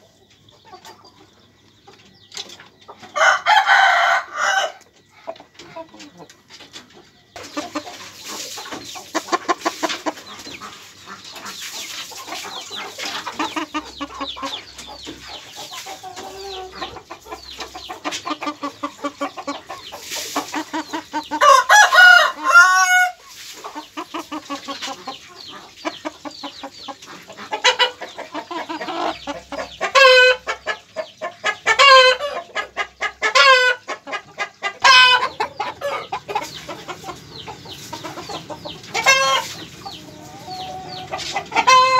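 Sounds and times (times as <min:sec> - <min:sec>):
chickens clucking: 0:00.0 - 0:41.9
loud chicken calls: 0:03.0 - 0:06.2, 0:07.4 - 0:25.8, 0:27.0 - 0:41.9.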